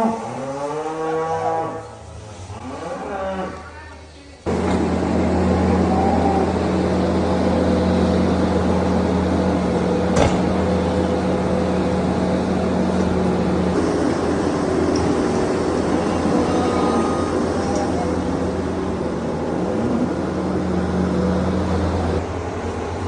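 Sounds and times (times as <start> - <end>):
loader engine running: 4.4 - 23.0.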